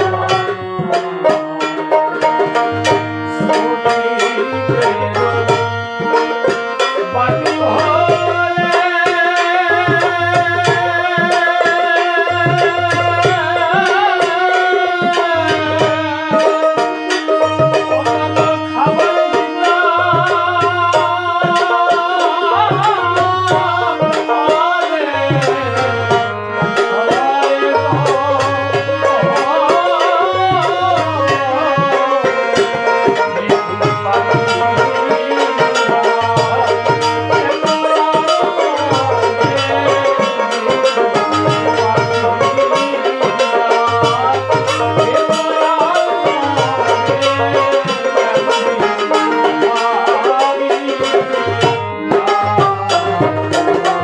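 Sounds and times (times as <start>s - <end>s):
devotional folk melody: 0.0s - 54.0s
hand drum beating: 0.0s - 54.0s.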